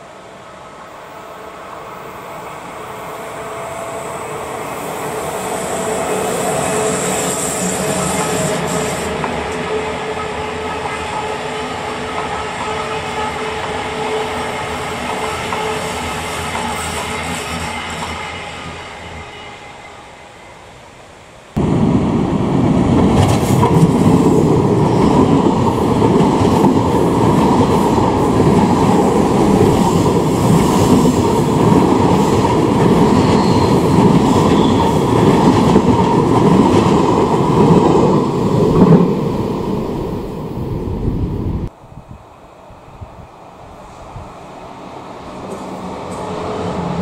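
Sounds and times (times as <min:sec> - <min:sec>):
train wheels on rails: 0:00.0 - 0:20.4, 0:21.6 - 0:41.8, 0:43.4 - 0:47.0
distant train: 0:00.0 - 0:47.0.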